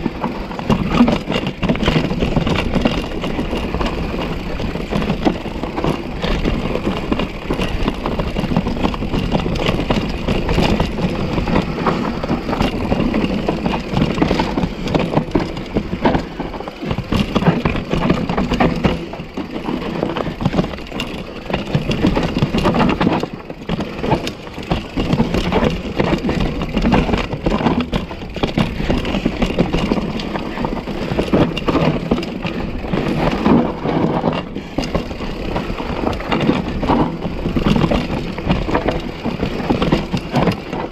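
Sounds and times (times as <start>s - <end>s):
bike rattling and clattering: 0.0s - 40.9s
tyres crunching over dirt and rock: 0.0s - 40.9s.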